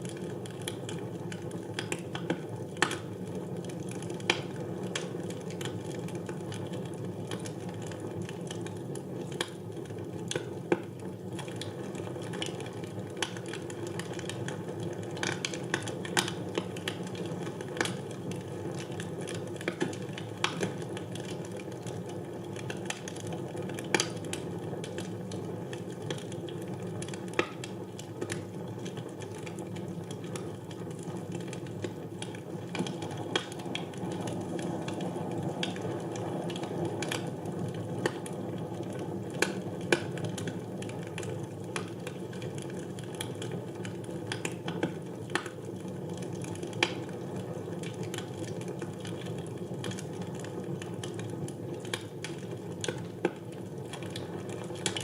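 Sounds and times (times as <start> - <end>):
fire burning: 0.0 - 55.0
fire crackling and popping: 0.0 - 55.0.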